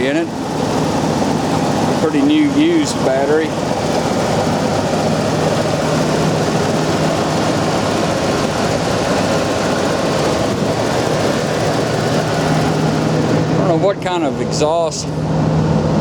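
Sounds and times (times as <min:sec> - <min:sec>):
pickup engine idling: 0:00.0 - 0:15.3.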